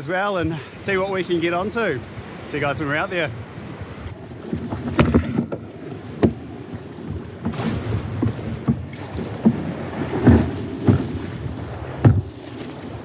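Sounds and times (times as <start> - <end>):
kayak paddle splashing: 0.0 - 13.0
waves slapping hull: 0.0 - 13.0.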